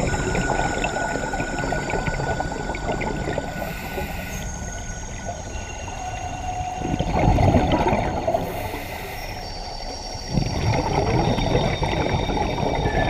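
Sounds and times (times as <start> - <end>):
regulator bubbles gushing: 0.0 - 13.0
underwater hiss and crackle: 0.0 - 13.0.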